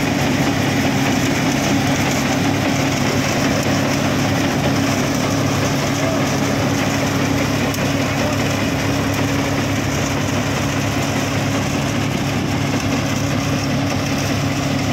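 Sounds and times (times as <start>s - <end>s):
low mechanical hum: 0.0s - 14.9s
thresher rushing noise: 0.0s - 14.9s.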